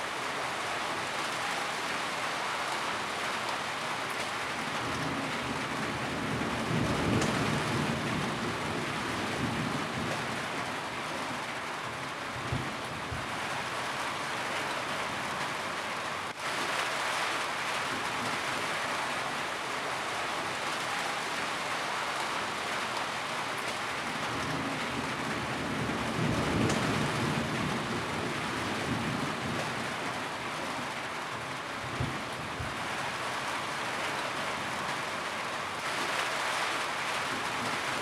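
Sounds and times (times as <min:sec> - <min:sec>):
rain on a roof: 0:00.0 - 0:38.0.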